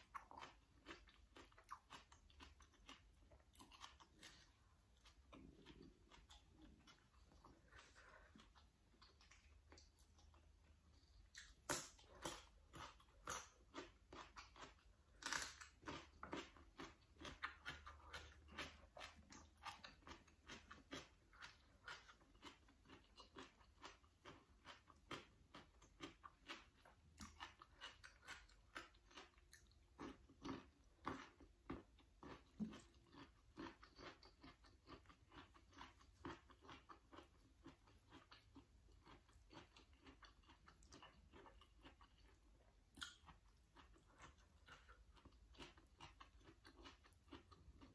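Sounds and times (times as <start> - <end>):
person chewing crunchy vegetables: 0.0 - 47.9.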